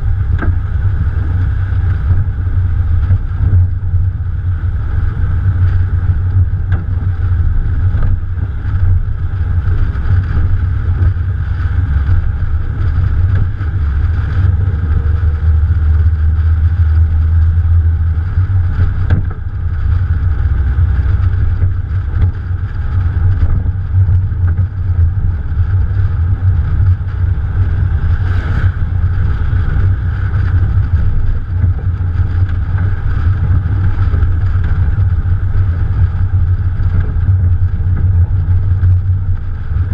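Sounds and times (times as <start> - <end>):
car engine running: 0.0 - 39.9
wind rumble on microphone: 0.0 - 39.9.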